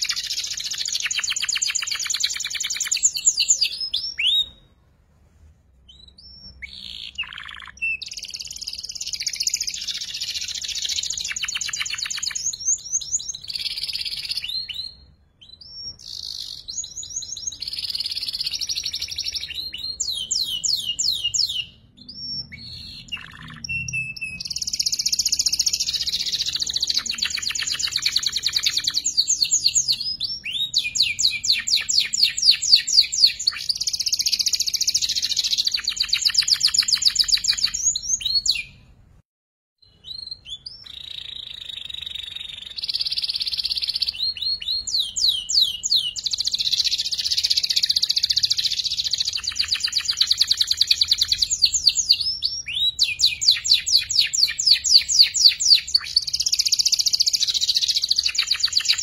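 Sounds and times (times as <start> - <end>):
canary singing trills: 0.0 - 4.8, 5.8 - 38.9, 39.8 - 59.0.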